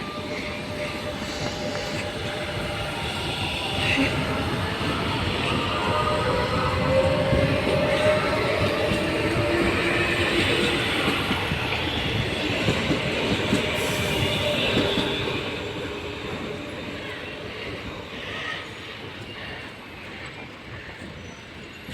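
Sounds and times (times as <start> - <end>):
electric train passing: 0.0 - 21.9
train wheels on rails: 0.0 - 21.9.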